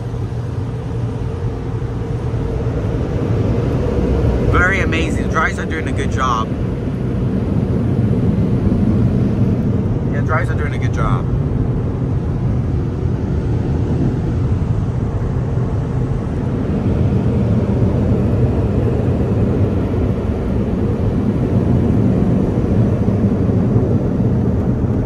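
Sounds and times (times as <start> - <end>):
car wash air dryers blowing: 0.0 - 25.0.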